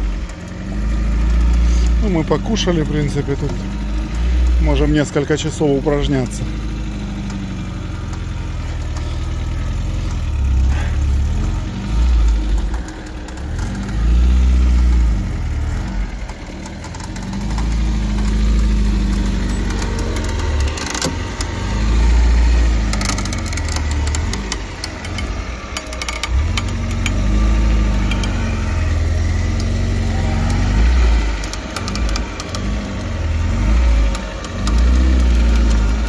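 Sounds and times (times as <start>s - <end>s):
off-road vehicle engine revving: 0.0s - 36.0s
sharp clicks and knocks: 0.0s - 36.0s.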